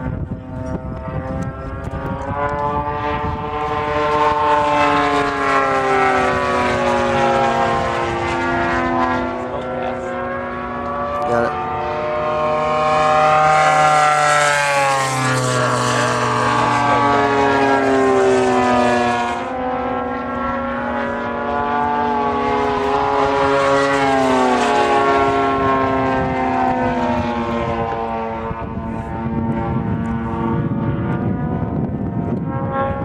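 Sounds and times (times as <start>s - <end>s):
model plane engines buzzing: 0.0s - 33.0s.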